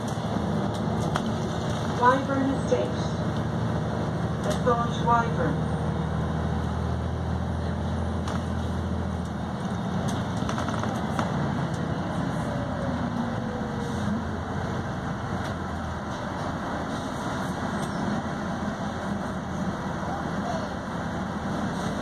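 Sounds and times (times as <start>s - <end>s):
bus diesel engine under load: 0.0s - 22.0s
road noise: 0.0s - 22.0s.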